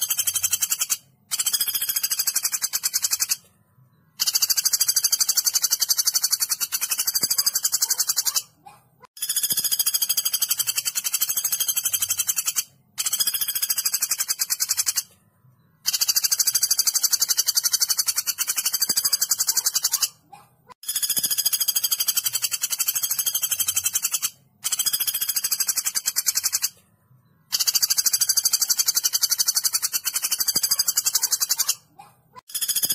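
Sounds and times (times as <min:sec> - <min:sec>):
woodpecker rattling trills: 0:00.0 - 0:03.4, 0:04.2 - 0:15.1, 0:15.8 - 0:26.8, 0:27.5 - 0:32.9.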